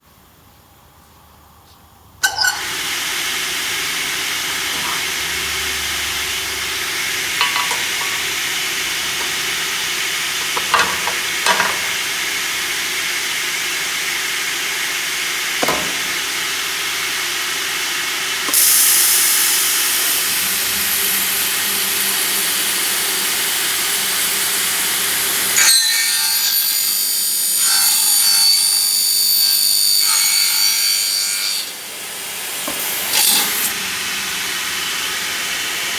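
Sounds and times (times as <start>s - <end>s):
mitre saw running: 2.2s - 35.9s.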